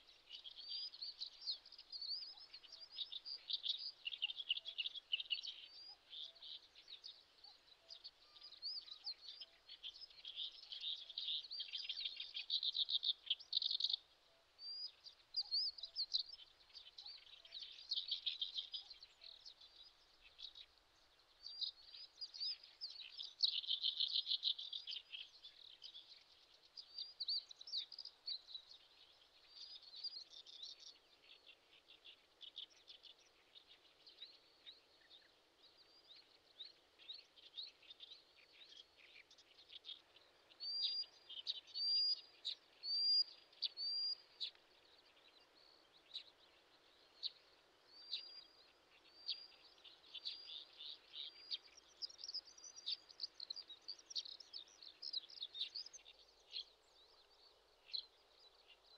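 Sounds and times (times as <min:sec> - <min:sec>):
small birds chirping and trilling: 0:00.0 - 0:58.9.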